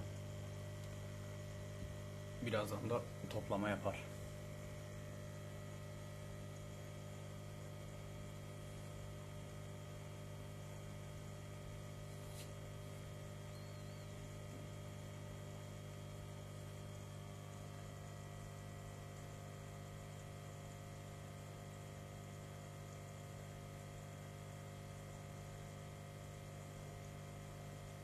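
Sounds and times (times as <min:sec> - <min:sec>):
aquarium pump humming: 0:00.0 - 0:28.0.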